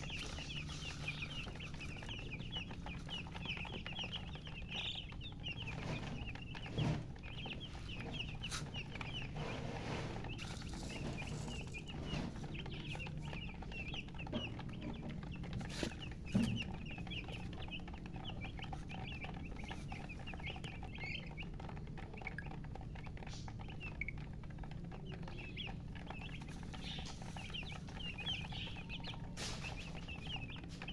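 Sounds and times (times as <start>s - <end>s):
baby chicks peeping: 0.0s - 30.9s.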